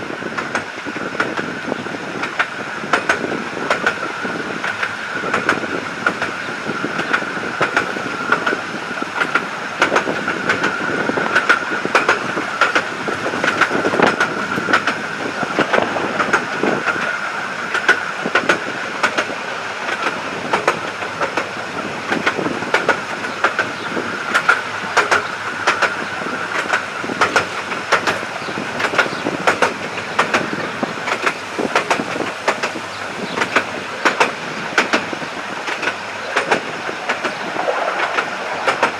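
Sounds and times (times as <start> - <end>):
train rumble: 0.0 - 38.9
train wheel whine: 0.0 - 38.9
wheels clicking over rail joints: 0.0 - 38.9.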